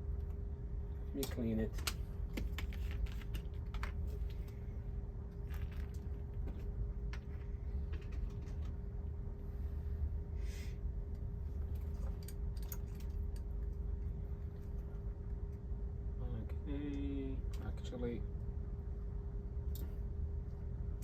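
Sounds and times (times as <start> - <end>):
low hum of bench equipment: 0.0 - 21.0.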